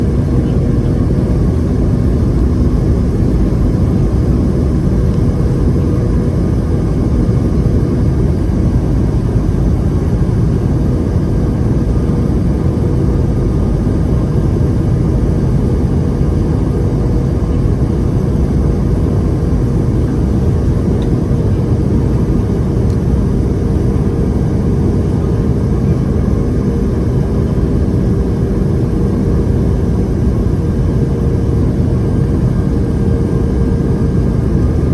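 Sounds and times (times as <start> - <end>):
jet engine drone in cabin: 0.0 - 34.9.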